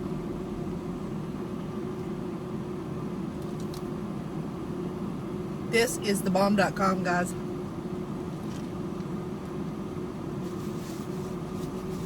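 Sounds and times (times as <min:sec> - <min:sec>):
car cabin hum and hiss: 0:00.0 - 0:12.0.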